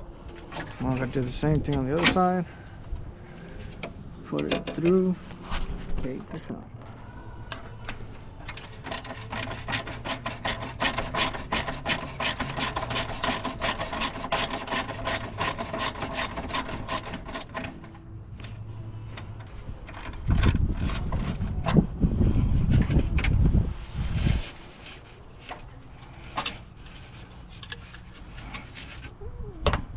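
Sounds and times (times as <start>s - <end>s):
low rumble of handling noise: 0.0s - 29.9s.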